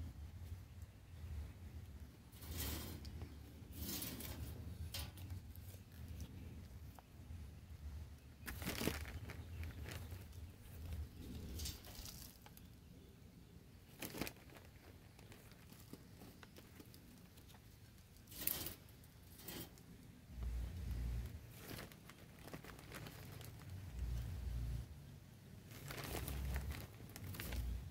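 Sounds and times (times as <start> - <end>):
hands rustling potting soil: 0.0 - 24.9, 25.6 - 27.9.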